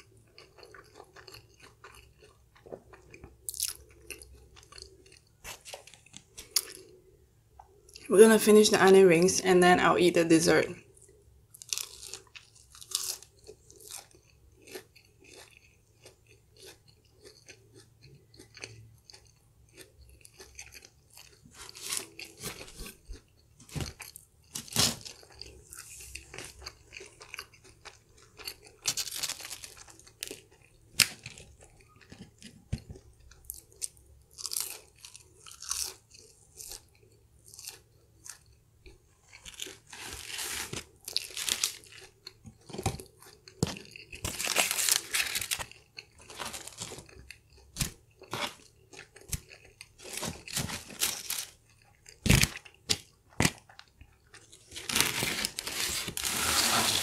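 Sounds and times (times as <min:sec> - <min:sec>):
crunching fried onion rings: 0:00.0 - 0:07.0, 0:10.8 - 0:57.0.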